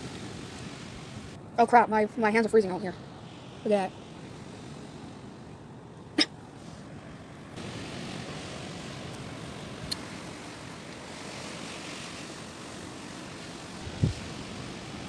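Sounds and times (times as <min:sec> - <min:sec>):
wind buffeting microphone: 0:00.0 - 0:05.9, 0:07.4 - 0:15.0
strong wind blowing: 0:00.0 - 0:06.0, 0:07.1 - 0:15.0.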